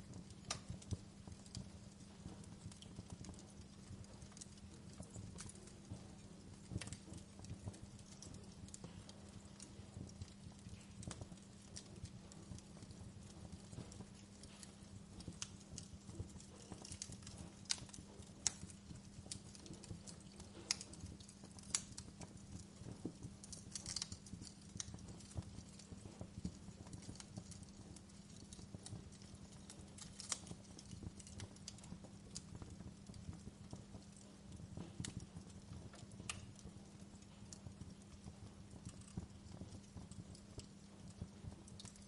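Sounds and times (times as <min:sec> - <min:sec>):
low rumble and hiss: 0:00.0 - 0:42.0
wood fire crackling: 0:00.0 - 0:42.0.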